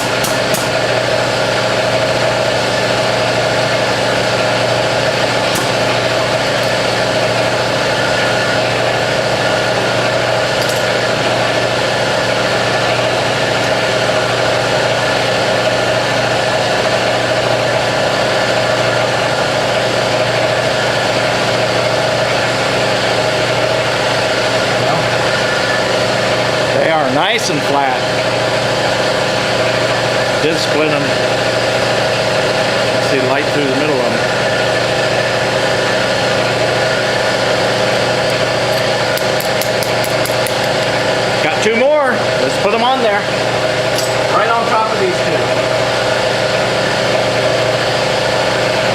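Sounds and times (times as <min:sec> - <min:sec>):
hydraulic press pump humming: 0:00.0 - 0:48.9.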